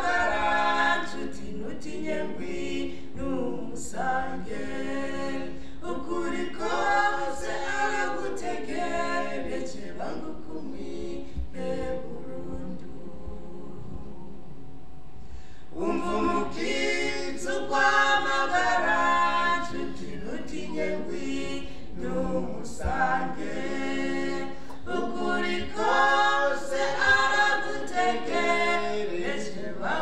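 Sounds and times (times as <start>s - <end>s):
people singing a cappella: 0.0s - 30.0s.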